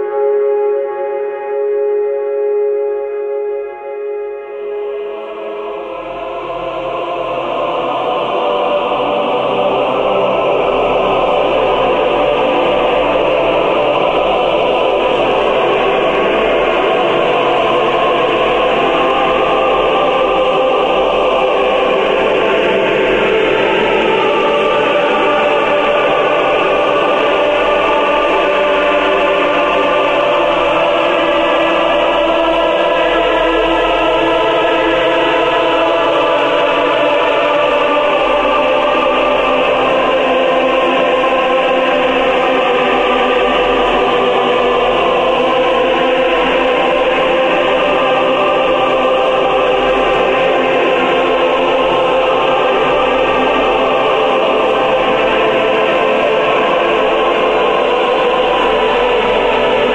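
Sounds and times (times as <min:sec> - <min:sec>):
sustained chords: 0:00.0 - 0:56.3
choir-like voices holding notes: 0:00.0 - 0:59.9.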